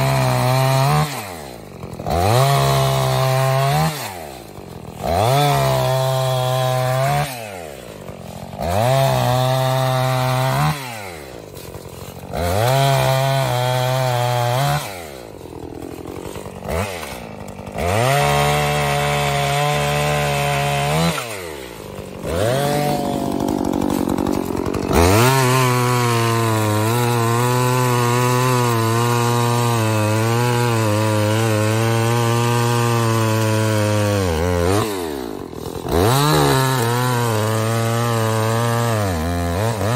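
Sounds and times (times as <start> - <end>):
chainsaw revving while cutting logs: 0.0 - 39.9.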